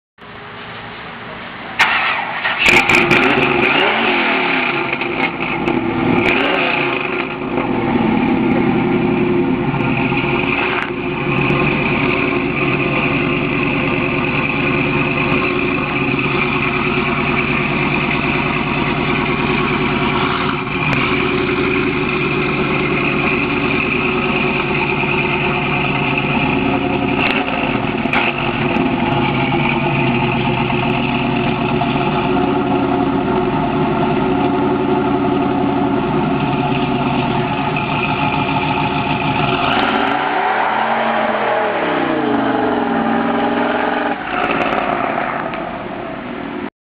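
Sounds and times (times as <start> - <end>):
car engine idling: 0.2 - 46.7
car engine starting and revving: 1.8 - 46.7.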